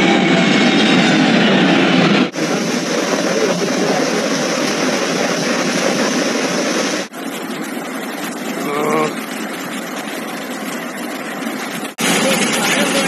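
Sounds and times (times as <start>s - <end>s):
floodwater rushing: 2.3s - 13.0s.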